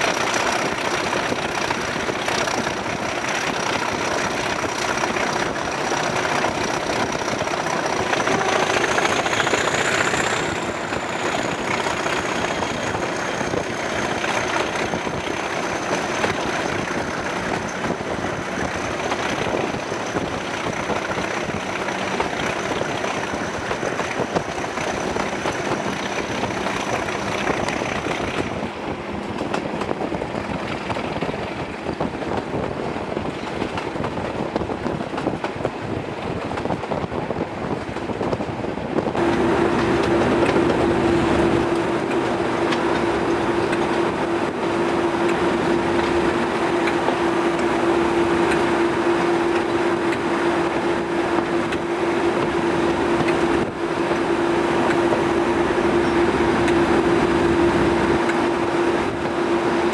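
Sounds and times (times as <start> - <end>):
diesel locomotive working hard: 0.0 - 59.9
train wheels on rails: 0.0 - 59.9
strong steady droning note: 1.5 - 29.3, 39.2 - 59.9.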